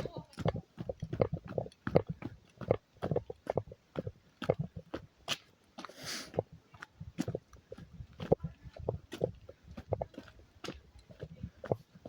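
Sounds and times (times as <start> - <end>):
footsteps on dirt trail: 0.0 - 12.0.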